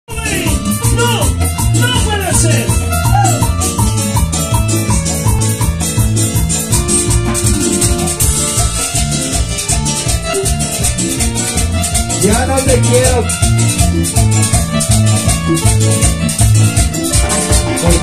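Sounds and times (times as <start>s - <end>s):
electric bass line: 0.1s - 18.0s
electronic keyboard melody: 0.1s - 18.0s
quick percussion rhythm: 0.1s - 18.0s.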